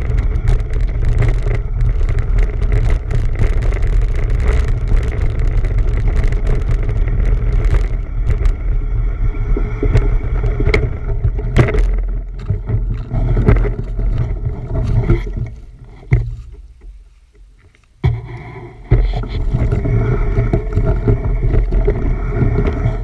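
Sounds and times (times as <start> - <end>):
wind on microphone: 0.0 - 16.8, 18.0 - 23.0
bicycle rattling over rough ground: 0.0 - 23.0.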